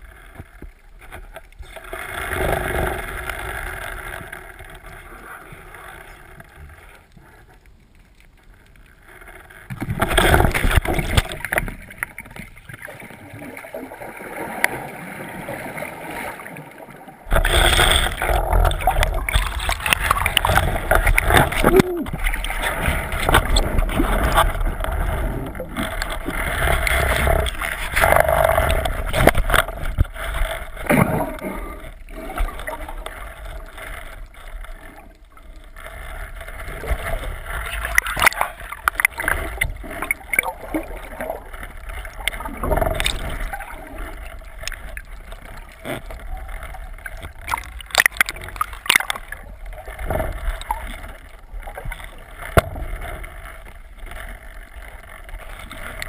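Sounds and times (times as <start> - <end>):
underwater wash and gurgling: 0.0 - 56.0.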